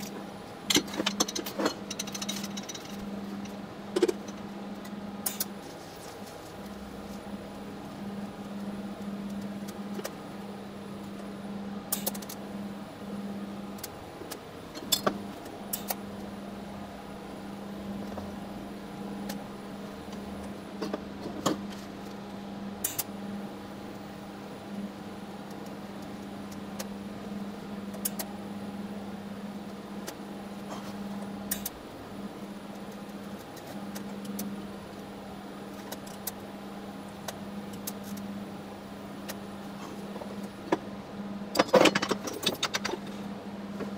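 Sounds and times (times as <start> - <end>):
welding arc humming: 0.0 - 43.2.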